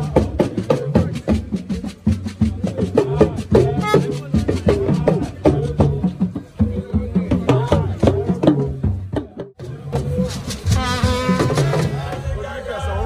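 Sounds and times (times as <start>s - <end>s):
driving drum beat: 0.0s - 12.4s
voices in music: 0.0s - 13.0s.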